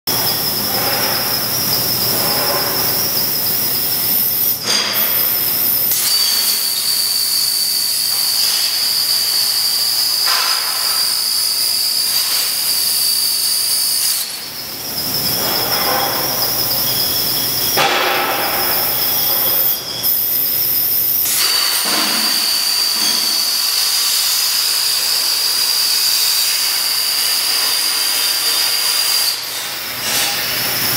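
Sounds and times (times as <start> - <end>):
plasma torch cutting steel: 0.1 - 30.9.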